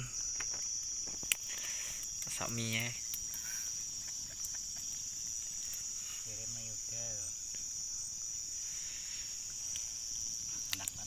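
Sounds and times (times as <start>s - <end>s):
crickets calling: 0.0s - 11.0s.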